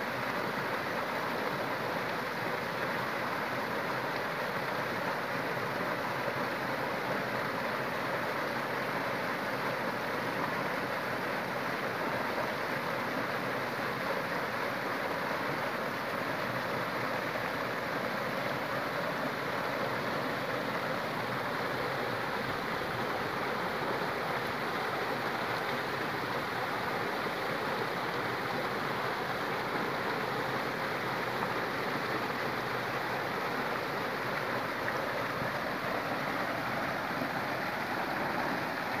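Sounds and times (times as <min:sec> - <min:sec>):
waterfall splashing into pool: 0:00.1 - 0:39.0.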